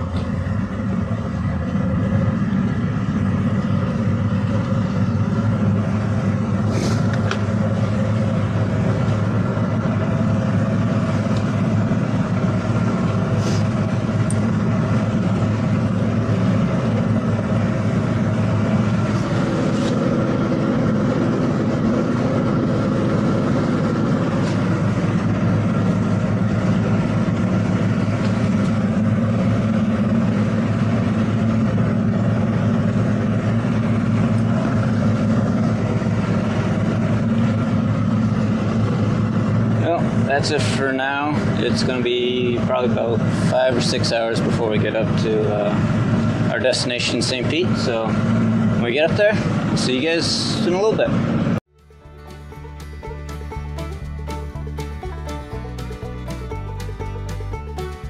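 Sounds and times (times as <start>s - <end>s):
outboard motors running: 0.0s - 58.0s.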